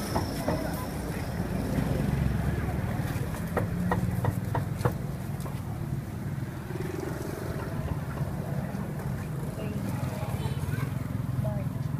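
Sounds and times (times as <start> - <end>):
street traffic engine rumble: 0.0 - 11.9.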